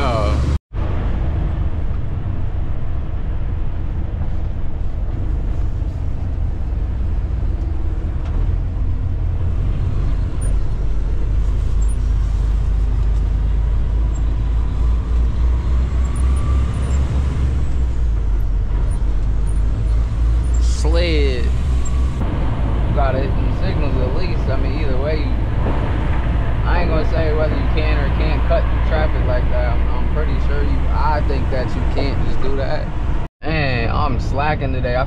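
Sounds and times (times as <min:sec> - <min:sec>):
road noise: 0:00.0 - 0:35.0
truck engine drone: 0:00.0 - 0:35.0.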